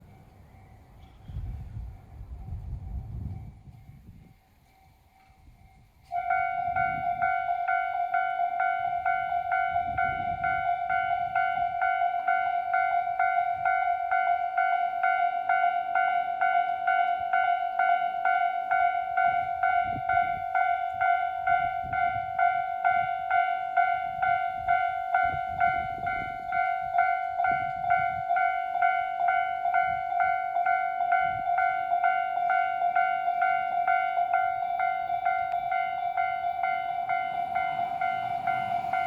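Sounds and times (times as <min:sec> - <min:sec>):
level crossing warning bell: 0:00.0 - 0:39.0
train rumble: 0:00.0 - 0:39.0.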